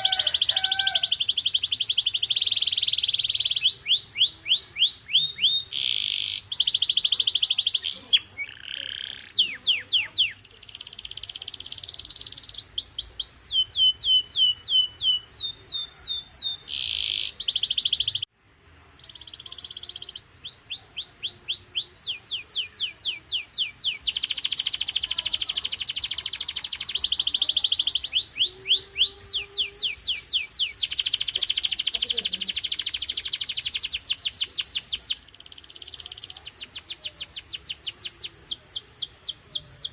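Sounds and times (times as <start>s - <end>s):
canary singing: 0.0s - 18.3s, 19.0s - 39.9s.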